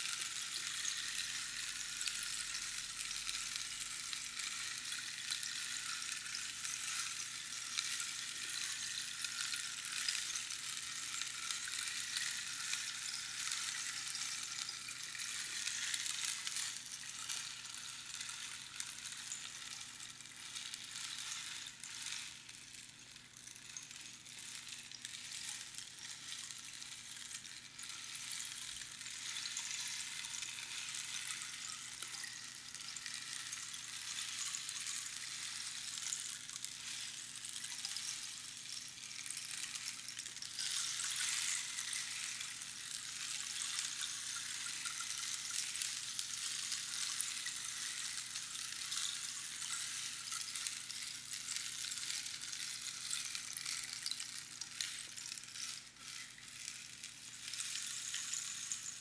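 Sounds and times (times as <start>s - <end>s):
rainstick pebbles trickling: 0.0s - 59.0s.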